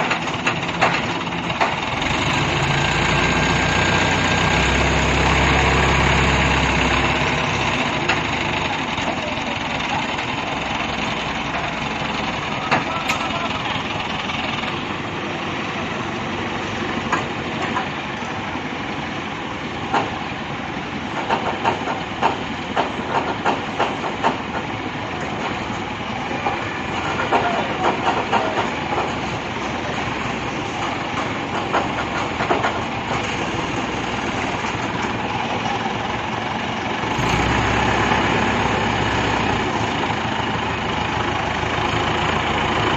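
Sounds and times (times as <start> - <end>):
heavy machinery engine hissing: 0.0 - 42.9.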